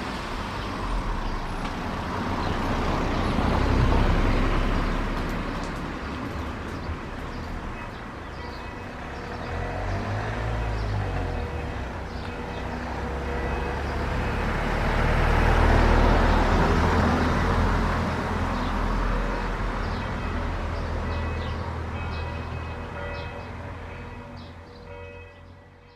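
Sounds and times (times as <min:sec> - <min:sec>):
road vehicle passing: 0:00.0 - 0:25.8.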